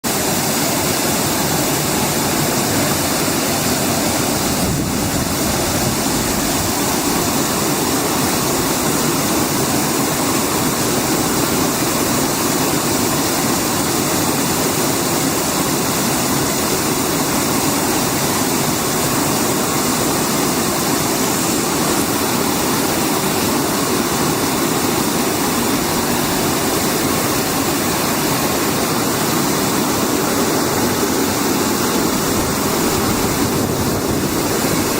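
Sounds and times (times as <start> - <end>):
water bubbling and rushing: 0.1 - 34.9.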